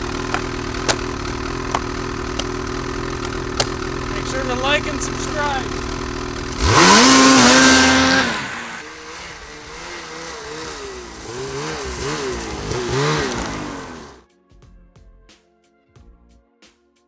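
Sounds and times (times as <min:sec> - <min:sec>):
snowmobile engine revving: 0:00.0 - 0:14.2.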